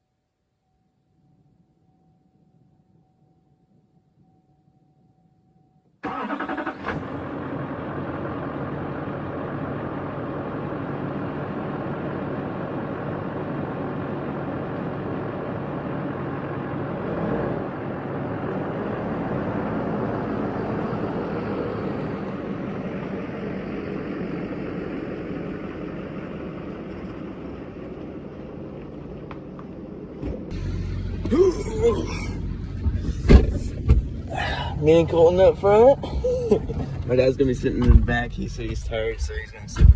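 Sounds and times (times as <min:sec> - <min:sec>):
road noise: 0:06.0 - 0:39.9
truck engine running: 0:06.1 - 0:39.9.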